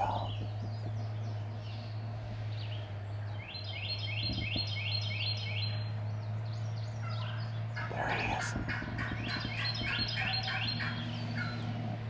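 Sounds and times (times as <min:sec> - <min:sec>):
songbird singing: 0:00.0 - 0:12.0
steady low hum: 0:00.0 - 0:12.0.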